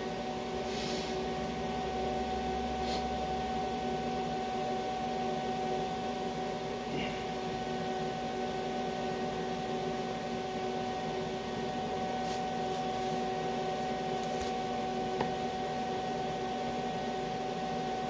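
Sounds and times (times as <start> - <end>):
welding arc hum and hiss: 0.0 - 18.0.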